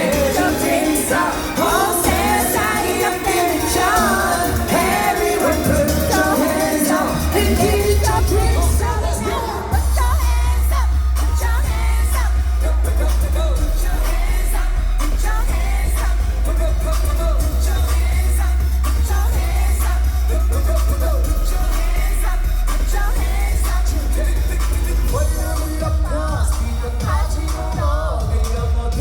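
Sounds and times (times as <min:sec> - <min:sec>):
heavy bass line: 0:00.0 - 0:29.0
person singing over backing track: 0:00.0 - 0:29.0.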